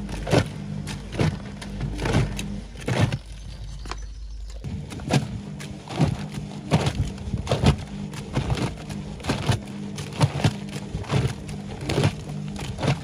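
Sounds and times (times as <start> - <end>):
laundry sloshing and thudding: 0.0 - 4.0, 4.6 - 13.0
washing machine motor hum: 0.0 - 13.0.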